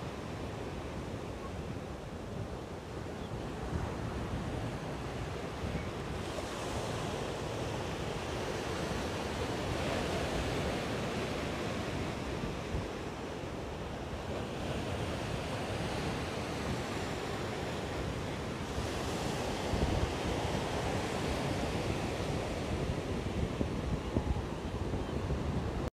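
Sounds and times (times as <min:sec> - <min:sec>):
wind rumbling on microphone: 0:00.9 - 0:25.9.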